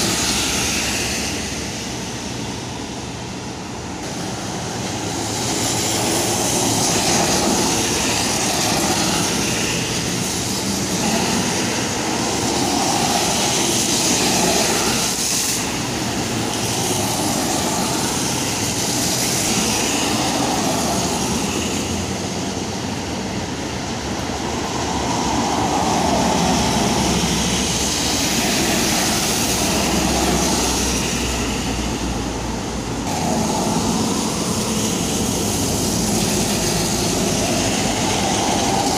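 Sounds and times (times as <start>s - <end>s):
tyres hissing through water: 0.0s - 38.9s.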